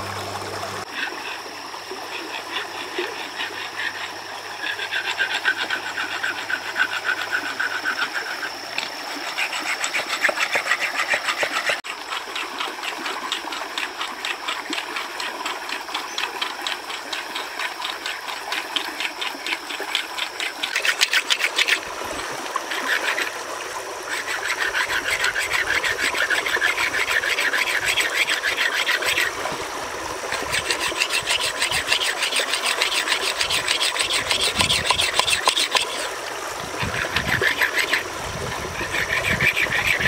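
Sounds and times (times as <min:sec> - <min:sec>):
stream water running: 0:00.0 - 0:40.0
stone scraping on wet boulder: 0:03.0 - 0:15.8, 0:16.7 - 0:23.4, 0:24.1 - 0:29.7, 0:30.3 - 0:40.0.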